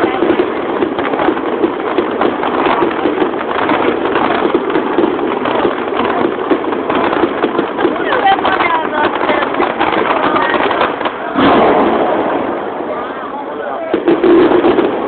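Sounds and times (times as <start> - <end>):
firework crackling pops: 0.0 - 15.0.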